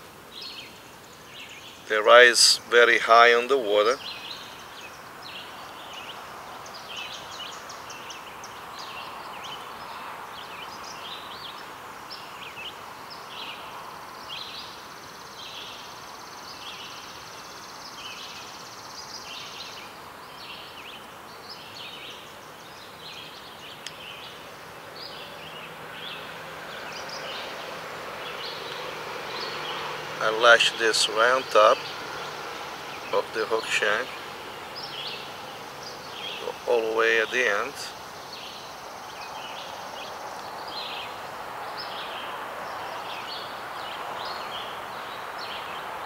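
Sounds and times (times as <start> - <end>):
steady hiss: 0.0 - 46.0.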